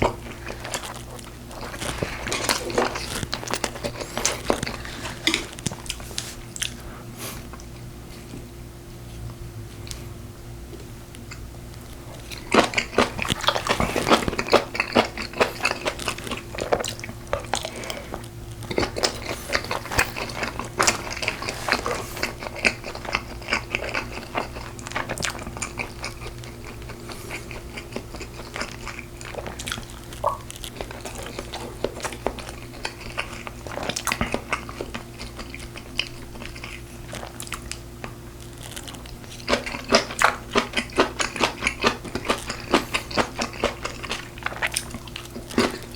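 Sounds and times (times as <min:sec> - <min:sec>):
close-miked chewing and biting: 0:00.0 - 0:06.9, 0:11.1 - 0:45.9
steady low hum: 0:00.0 - 0:45.9.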